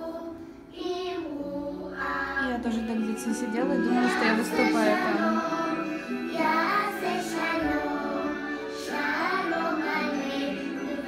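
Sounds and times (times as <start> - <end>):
children singing song on television: 0.0 - 11.0.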